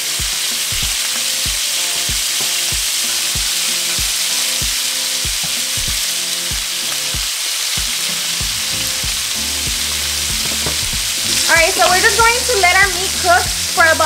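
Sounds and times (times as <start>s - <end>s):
background music with steady beat: 0.0s - 14.0s
meat sizzling in oil: 0.0s - 14.0s.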